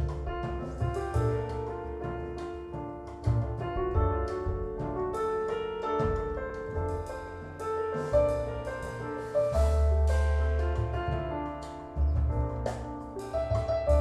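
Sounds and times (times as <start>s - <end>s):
piano music with low bass: 0.0s - 14.0s.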